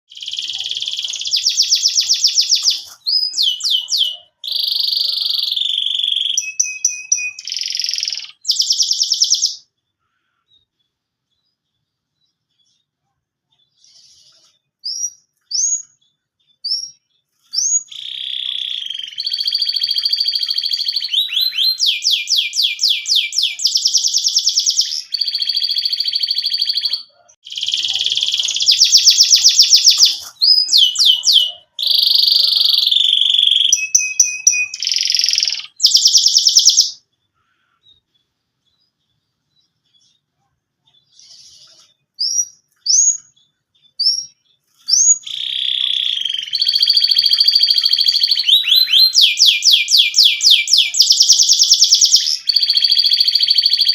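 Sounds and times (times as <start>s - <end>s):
canary singing trills: 0.1s - 13.0s, 13.6s - 53.9s.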